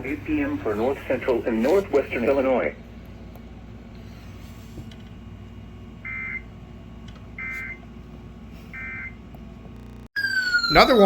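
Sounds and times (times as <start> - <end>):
faint steady hum: 0.0 - 10.1.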